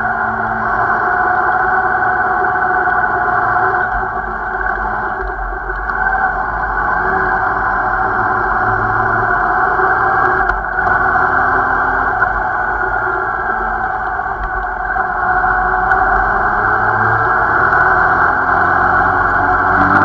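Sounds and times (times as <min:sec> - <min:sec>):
rushing road noise: 0:00.0 - 0:20.0.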